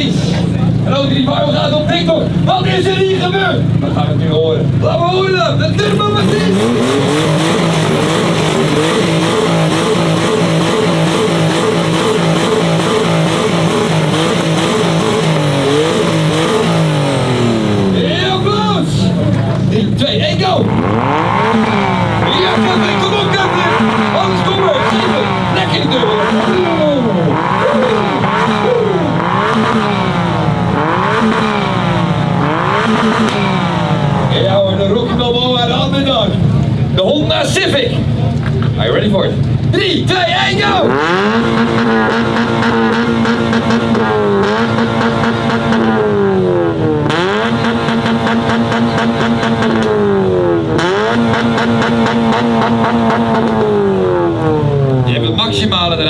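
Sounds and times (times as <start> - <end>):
car engine revving high: 0.0 - 38.2, 39.3 - 56.0.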